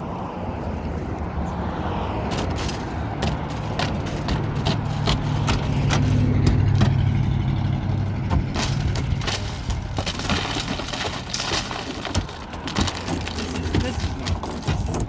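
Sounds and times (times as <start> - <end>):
car engine humming: 0.8 - 15.0
clicks and rattles: 2.2 - 15.0.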